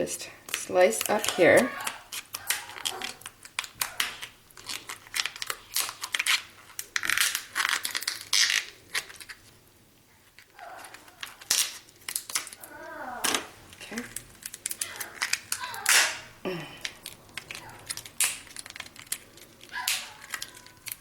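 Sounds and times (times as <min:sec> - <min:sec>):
lobster shell crunching and snipping: 0:00.5 - 0:09.4, 0:10.4 - 0:21.0.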